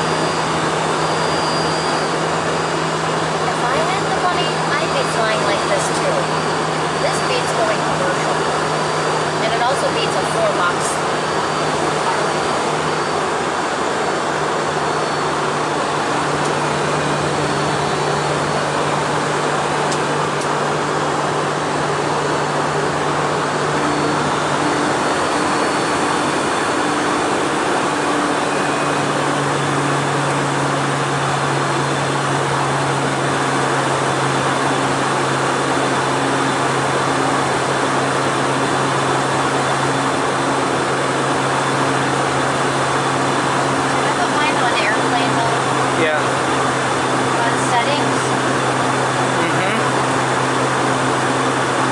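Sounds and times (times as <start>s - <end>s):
low hum of jet engines: 0.0s - 51.9s.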